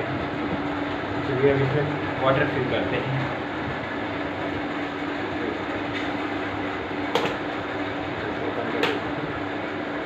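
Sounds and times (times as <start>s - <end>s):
machine hum with low whine: 0.0s - 10.0s.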